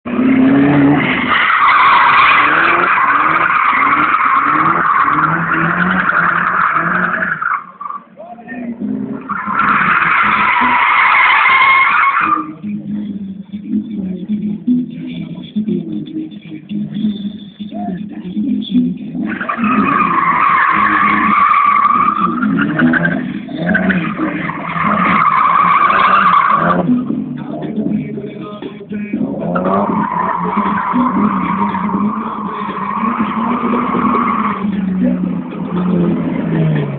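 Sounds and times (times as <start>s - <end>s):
car engine revving: 0.0s - 36.9s
tyres squealing: 0.2s - 13.4s, 19.1s - 36.9s.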